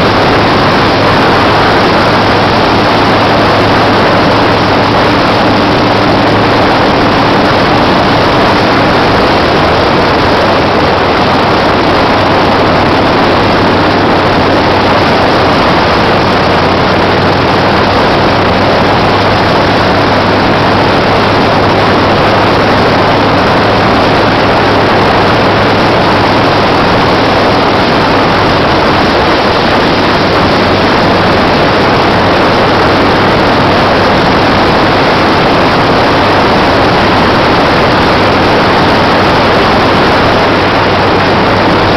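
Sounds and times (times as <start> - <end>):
motorcycle engine cruising: 0.0 - 41.9
wind rush on microphone: 0.0 - 41.9.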